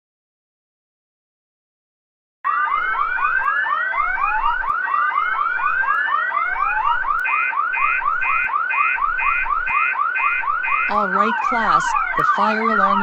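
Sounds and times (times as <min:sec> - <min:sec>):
fire alarm electronic whoop: 0:02.5 - 0:13.0.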